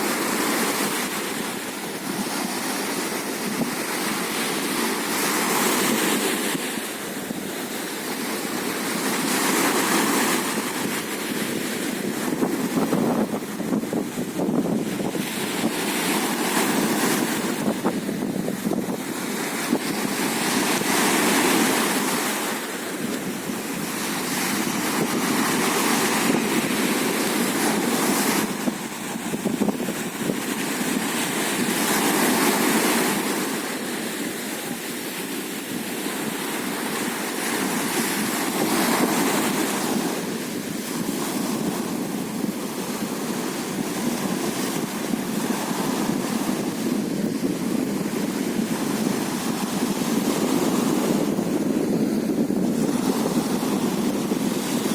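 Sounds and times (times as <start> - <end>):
surf washing onto beach: 0.0 - 54.9.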